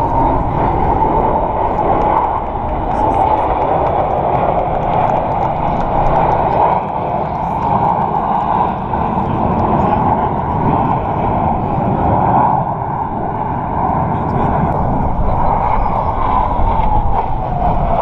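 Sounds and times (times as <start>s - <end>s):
jet flying past low: 0.0s - 18.0s.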